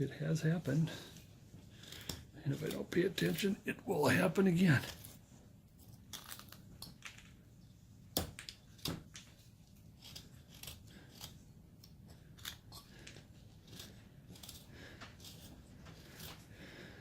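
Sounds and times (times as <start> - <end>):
knife carving wood chips: 1.8 - 7.1, 8.1 - 16.6.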